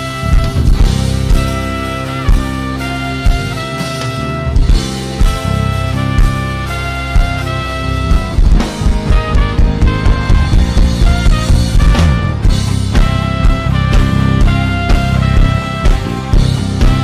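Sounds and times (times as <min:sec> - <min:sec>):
drum kit steady beat: 0:00.0 - 0:17.0
saxophone: 0:00.0 - 0:17.0
trumpet: 0:00.0 - 0:17.0.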